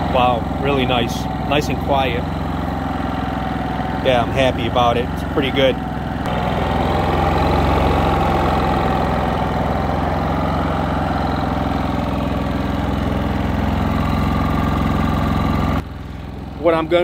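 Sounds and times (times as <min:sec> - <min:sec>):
generator running quietly: 0:00.0 - 0:17.0.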